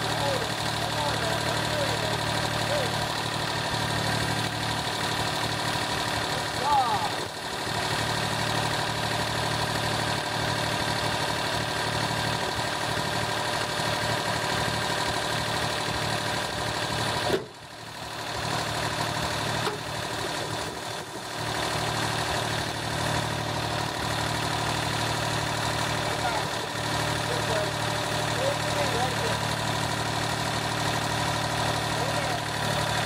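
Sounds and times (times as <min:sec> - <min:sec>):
tractor engine idling: 0:00.0 - 0:33.0.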